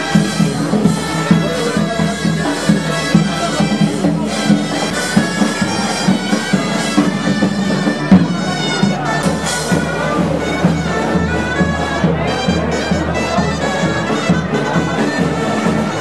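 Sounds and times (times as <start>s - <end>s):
bagpipe melody: 0.0s - 16.0s.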